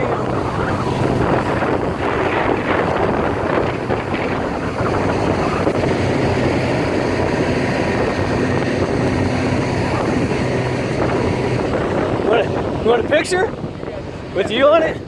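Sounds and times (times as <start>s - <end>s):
vehicle engine hum: 0.0s - 15.0s
wind rushing over microphone: 0.0s - 15.0s.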